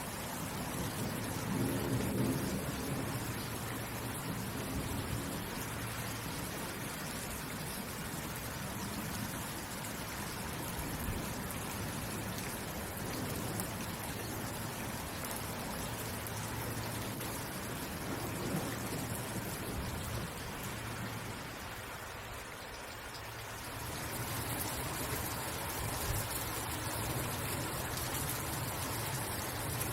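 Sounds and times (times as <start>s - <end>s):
rain hissing: 0.0s - 29.9s
raindrops pattering: 0.0s - 29.9s.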